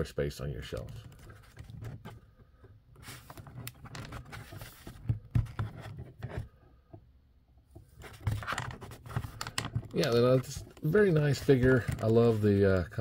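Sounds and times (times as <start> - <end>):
plastic toy figure being handled: 0.6 - 13.0.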